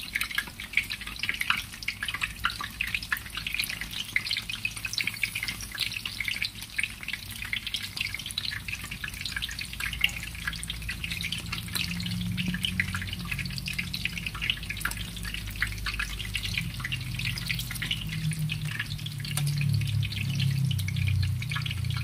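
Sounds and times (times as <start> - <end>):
food deep-frying in hot oil: 0.0 - 22.0
low steady hum: 0.7 - 22.0.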